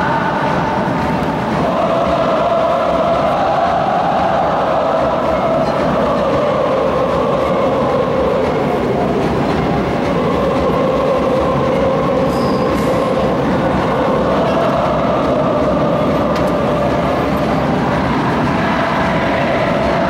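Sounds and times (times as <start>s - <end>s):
stadium crowd roaring: 0.0s - 20.0s.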